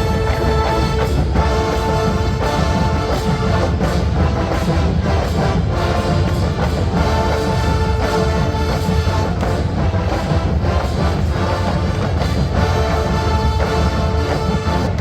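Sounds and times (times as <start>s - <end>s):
brass sustained chords: 0.0s - 15.0s
drums and low percussion: 0.0s - 15.0s.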